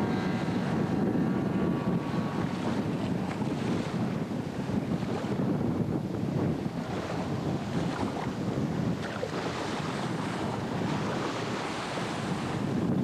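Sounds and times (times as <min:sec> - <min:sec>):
boat engine: 0:00.0 - 0:13.0
water rushing: 0:00.0 - 0:13.0
wind buffeting microphone: 0:00.0 - 0:13.0.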